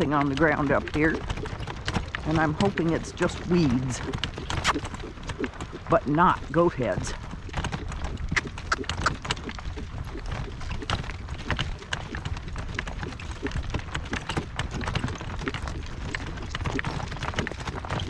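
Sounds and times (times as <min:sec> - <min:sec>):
harness and cart rattling: 0:00.0 - 0:18.0
hooves on soft ground: 0:00.0 - 0:18.0.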